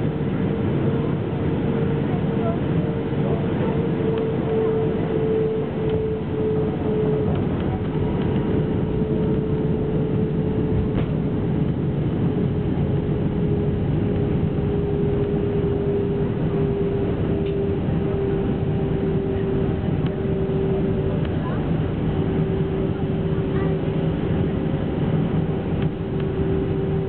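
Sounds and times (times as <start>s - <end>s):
aircraft cabin rumble: 0.0s - 27.0s.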